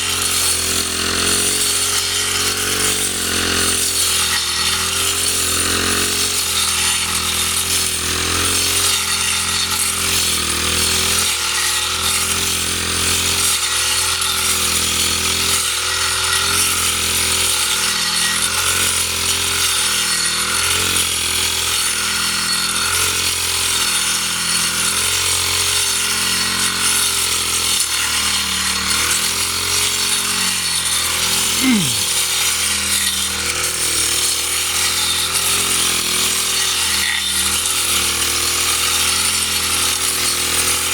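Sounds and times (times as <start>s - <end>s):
small engine cutter running: 0.0s - 40.9s.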